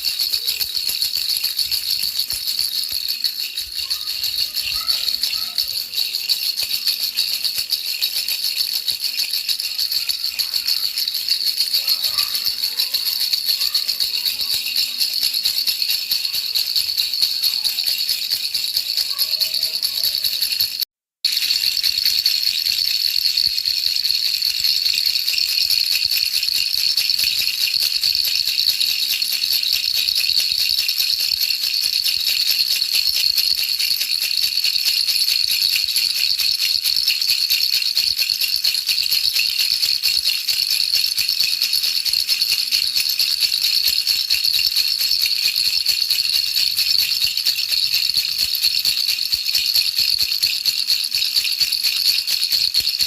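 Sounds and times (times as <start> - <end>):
baby rattle shaken: 0.0 - 53.0.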